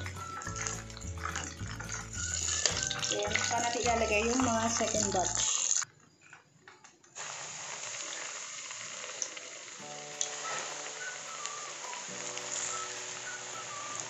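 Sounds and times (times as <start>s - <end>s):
hot oil sizzling in a wok: 0.0s - 5.8s, 7.2s - 14.0s.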